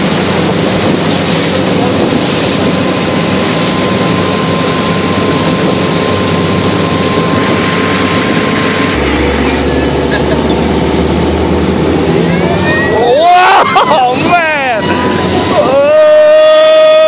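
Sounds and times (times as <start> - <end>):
motorboat engine running: 0.0 - 17.0
rushing water: 0.0 - 17.0
wind: 0.0 - 17.0.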